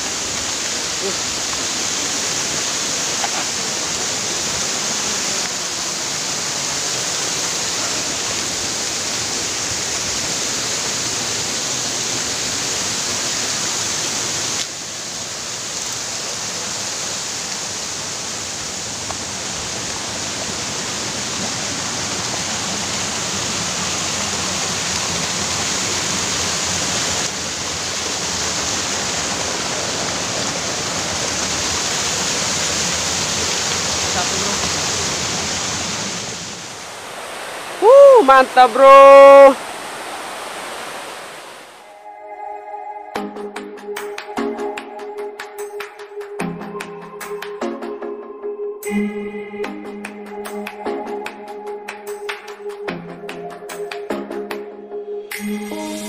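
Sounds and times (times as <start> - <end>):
waterfall rushing: 0.0 - 42.0, 43.1 - 48.0, 49.6 - 54.6.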